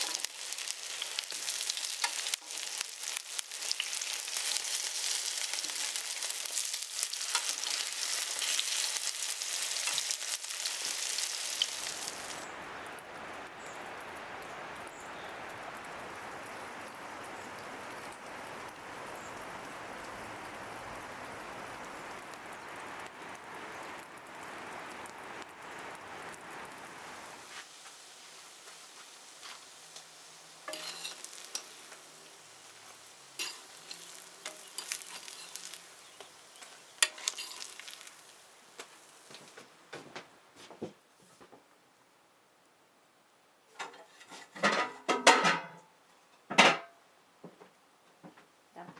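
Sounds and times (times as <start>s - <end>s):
pancakes sizzling in oil: 0.0s - 40.0s.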